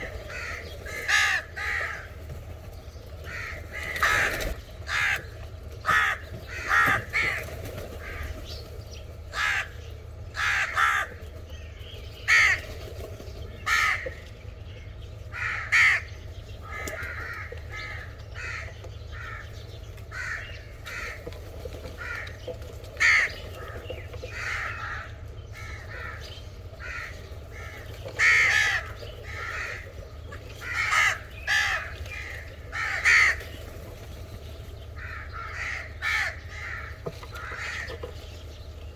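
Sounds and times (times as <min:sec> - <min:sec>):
crows cawing: 0:00.0 - 0:02.4, 0:03.2 - 0:08.5, 0:09.3 - 0:11.4, 0:12.2 - 0:12.9, 0:13.6 - 0:14.2, 0:15.3 - 0:22.4, 0:23.0 - 0:33.8, 0:34.9 - 0:38.2
steady low hum: 0:00.0 - 0:38.9.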